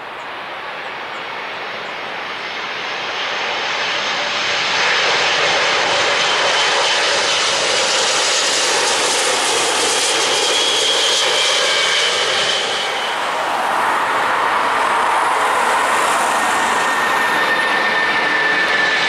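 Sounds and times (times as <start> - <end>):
jet airliner passing overhead: 0.0 - 19.0.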